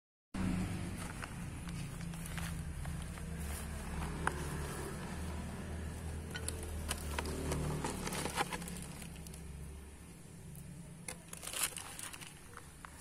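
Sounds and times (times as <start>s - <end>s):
low steady hum: 0.4s - 13.0s
light clicks and rustles on soil: 0.8s - 13.0s.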